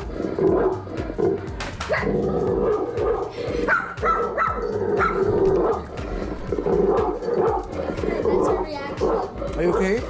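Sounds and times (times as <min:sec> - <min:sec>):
steady low sound: 0:00.0 - 0:10.0
dog barking: 0:00.4 - 0:05.9, 0:06.6 - 0:07.7, 0:08.4 - 0:10.0.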